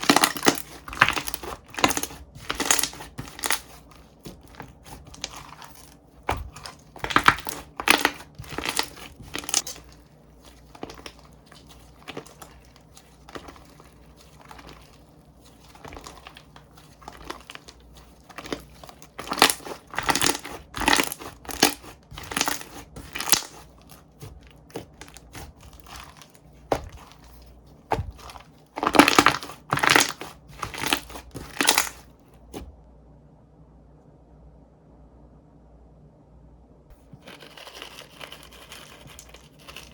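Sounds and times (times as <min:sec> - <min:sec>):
slime squishing and crackling: 0:00.0 - 0:32.6, 0:36.9 - 0:39.9.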